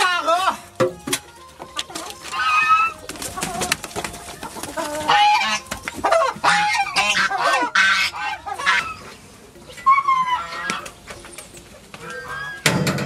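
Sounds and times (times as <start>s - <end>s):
chickens squawking and clucking: 0.0s - 13.0s.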